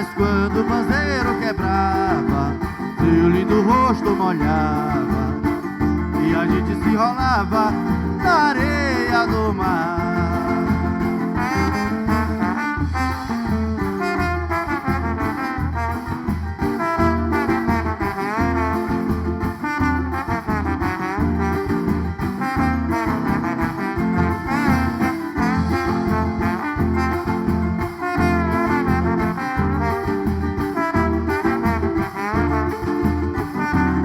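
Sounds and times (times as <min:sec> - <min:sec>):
instrumental band music: 0:00.0 - 0:34.0.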